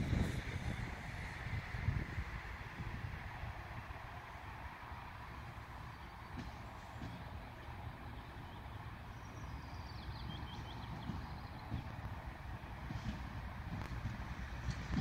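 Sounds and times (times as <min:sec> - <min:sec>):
locomotive rumbling: 0:00.0 - 0:15.0.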